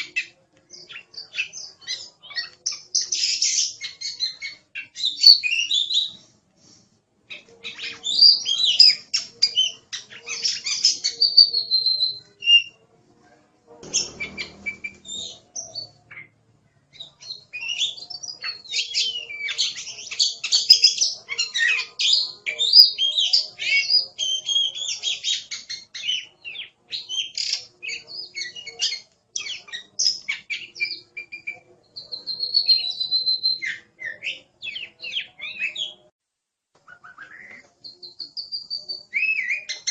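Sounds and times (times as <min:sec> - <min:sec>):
songbird singing: 0:00.0 - 0:06.3, 0:07.3 - 0:12.8, 0:13.8 - 0:36.1, 0:36.9 - 0:39.9.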